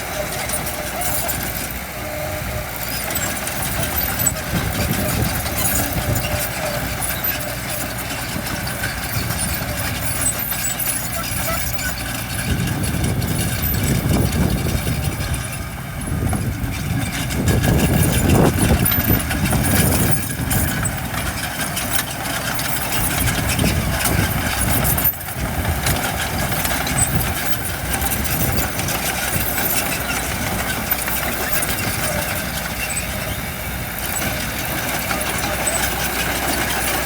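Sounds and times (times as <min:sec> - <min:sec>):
construction machinery diesel engines: 0:00.0 - 0:37.0.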